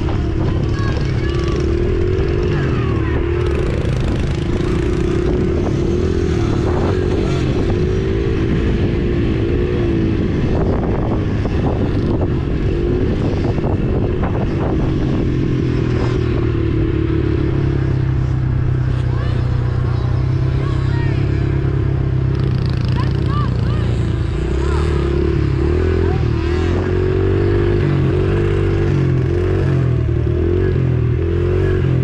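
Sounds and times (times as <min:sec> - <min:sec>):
small motorcycle engine revving: 0:00.0 - 0:32.0.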